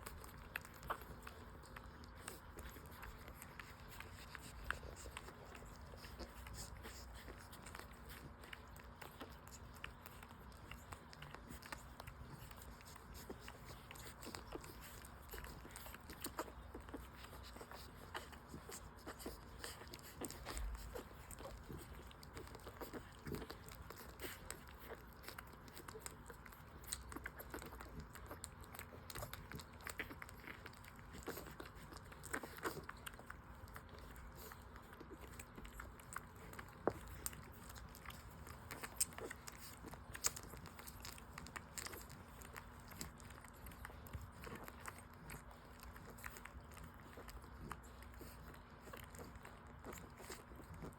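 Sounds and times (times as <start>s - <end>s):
puppies suckling: 0.0s - 50.9s.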